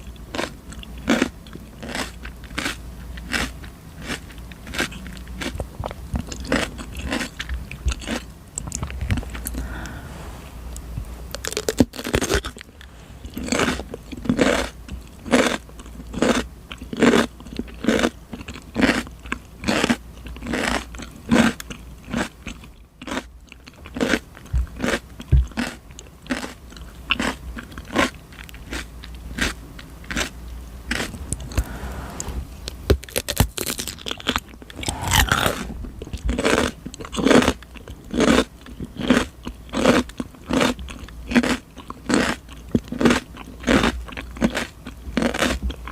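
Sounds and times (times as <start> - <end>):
cucumber being chewed: 0.0 - 10.0, 10.7 - 31.9, 32.6 - 45.9.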